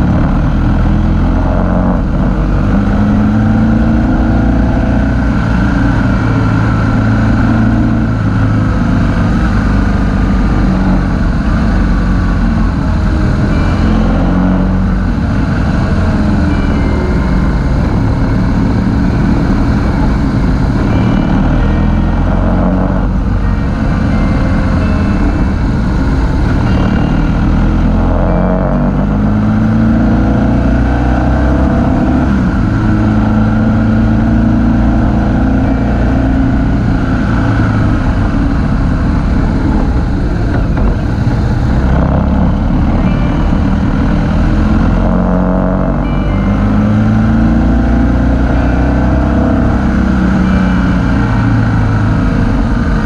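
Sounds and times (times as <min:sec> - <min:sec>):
motorcycle engine revving: 0:00.0 - 0:53.0
steady rush of noise: 0:00.0 - 0:53.0.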